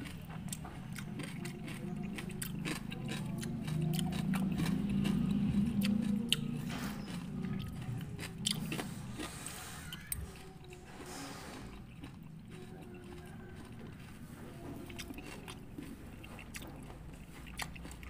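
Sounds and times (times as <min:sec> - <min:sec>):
low hum: 0:00.0 - 0:17.3
crunchy fruit chewing: 0:00.0 - 0:18.0.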